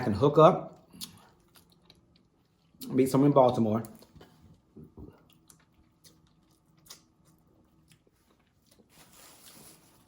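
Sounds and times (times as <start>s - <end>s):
faint chewing: 0.7s - 10.0s.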